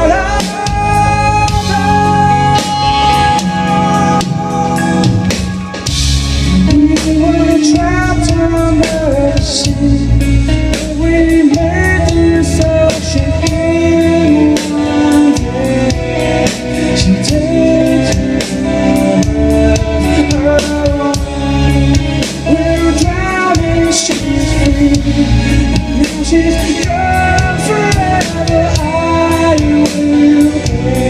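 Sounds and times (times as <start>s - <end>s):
live rock band playing: 0.0s - 31.0s
man singing: 0.0s - 31.0s.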